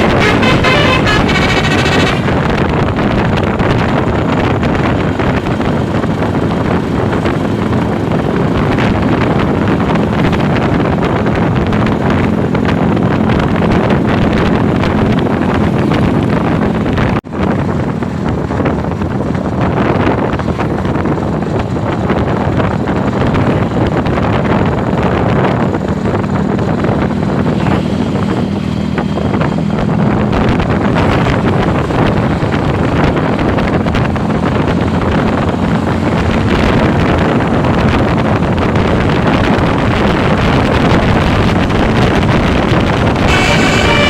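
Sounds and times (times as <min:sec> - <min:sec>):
heavy vehicle engine running: 0:00.0 - 0:44.0
road noise: 0:00.0 - 0:44.0
wind buffeting microphone: 0:00.0 - 0:44.0.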